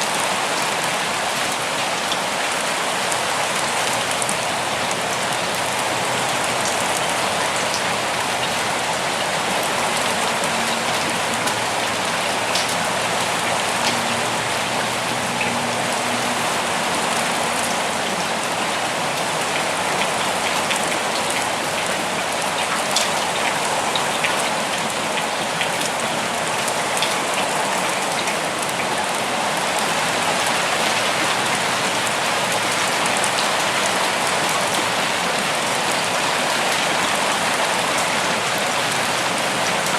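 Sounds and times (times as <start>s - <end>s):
raindrops ticking on leaves: 0.0s - 39.9s.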